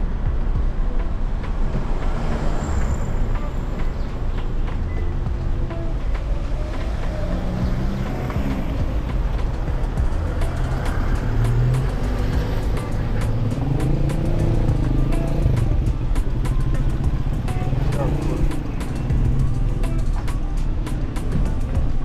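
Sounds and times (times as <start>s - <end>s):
music: 0.0s - 22.0s
road noise: 0.0s - 22.0s
vehicle engines rumbling: 0.0s - 22.0s.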